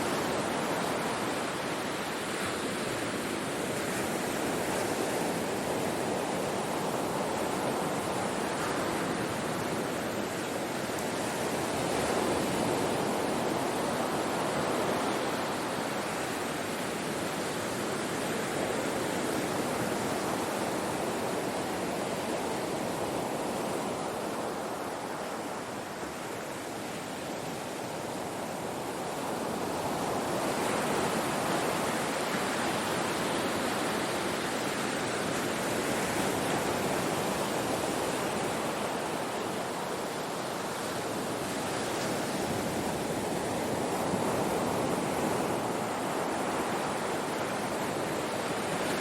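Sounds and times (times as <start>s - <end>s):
ocean surf breaking on shore: 0.0s - 49.0s.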